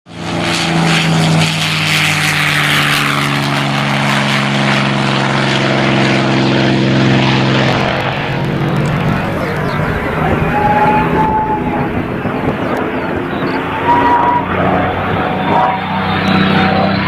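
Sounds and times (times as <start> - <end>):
propeller aircraft engine droning: 0.1 - 17.0.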